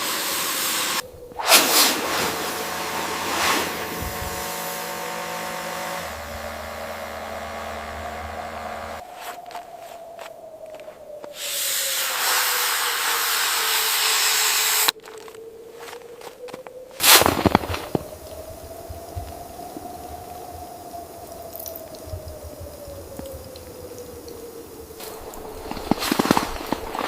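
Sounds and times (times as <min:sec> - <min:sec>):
blizzard wind hissing: 0:00.0 - 0:27.0
faint wind whistle: 0:00.0 - 0:27.0.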